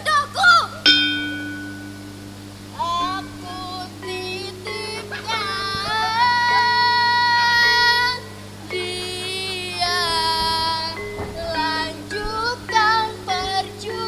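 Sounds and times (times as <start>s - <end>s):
young female voice singing: 0.0s - 1.0s, 2.7s - 14.0s
steady low hum: 0.0s - 14.0s.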